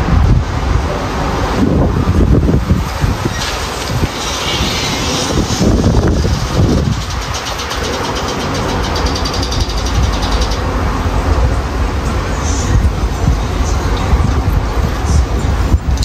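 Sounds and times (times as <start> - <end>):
highway traffic noise: 0.0 - 16.0
strong wind buffeting microphone: 0.0 - 16.0.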